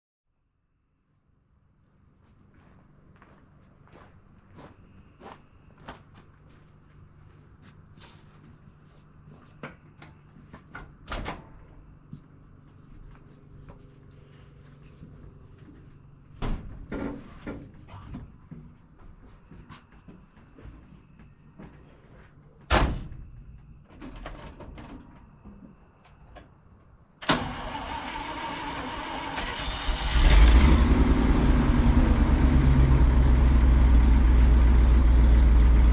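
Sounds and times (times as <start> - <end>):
insects chirping: 0.3 - 35.9.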